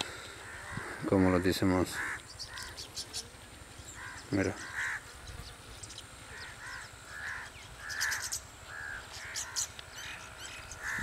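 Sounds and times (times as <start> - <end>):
crows cawing: 0.0 - 5.3, 6.3 - 11.0.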